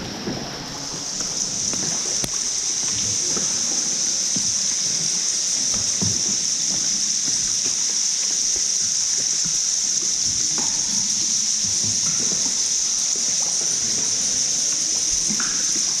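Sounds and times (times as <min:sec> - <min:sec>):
rushing water hiss: 0:00.0 - 0:16.0.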